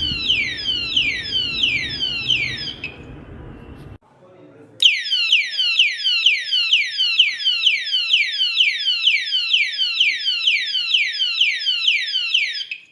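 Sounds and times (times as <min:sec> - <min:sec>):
siren whooping: 0:00.0 - 0:03.8, 0:04.8 - 0:12.9.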